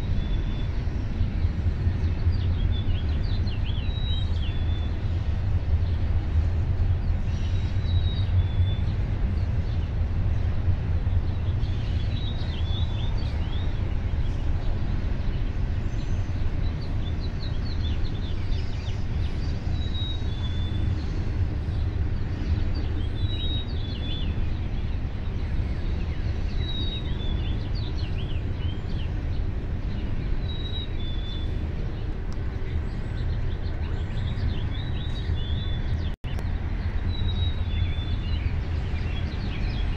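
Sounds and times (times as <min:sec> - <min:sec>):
songbirds chirping: 0:00.0 - 0:39.9
steady low rumble: 0:00.0 - 0:39.9.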